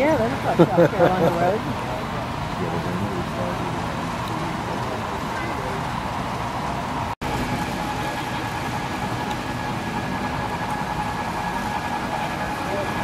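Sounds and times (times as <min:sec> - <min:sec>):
faint continuous whine: 0:00.0 - 0:13.0
model trains running: 0:00.0 - 0:13.0.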